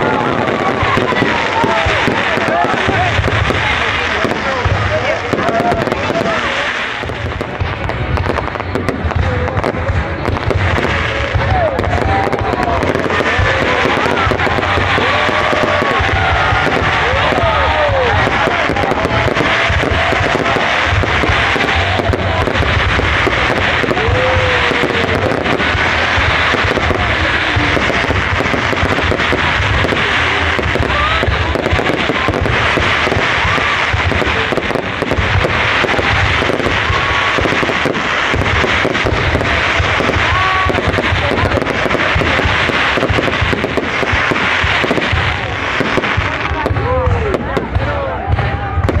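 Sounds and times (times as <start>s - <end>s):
dense crackling and popping: 0.0s - 49.0s.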